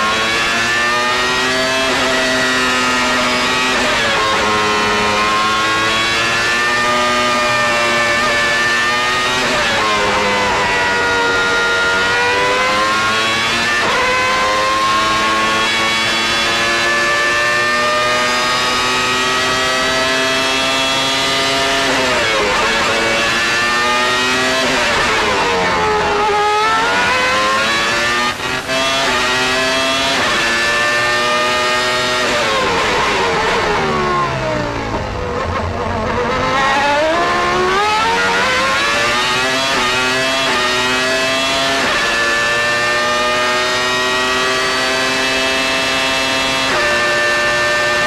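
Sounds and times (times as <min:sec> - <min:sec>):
racing car engine: 0:00.0 - 0:48.0.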